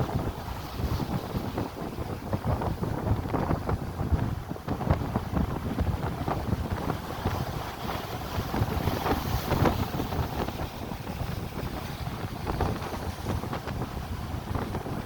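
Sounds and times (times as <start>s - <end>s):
sea surf on shore: 0.0s - 15.0s
wind buffeting microphone: 0.0s - 15.0s.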